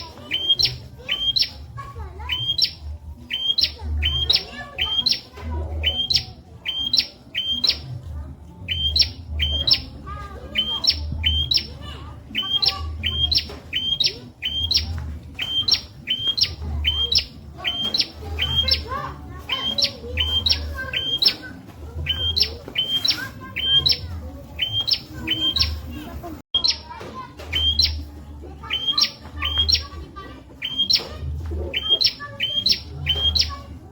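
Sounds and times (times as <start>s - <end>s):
birds warbling: 0.0s - 33.9s
prinia calling: 0.0s - 33.9s.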